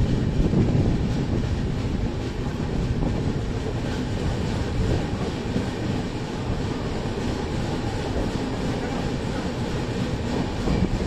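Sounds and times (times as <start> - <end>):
faint rail clatter: 0.0 - 11.0
train wheels rumbling on rail: 0.0 - 11.0.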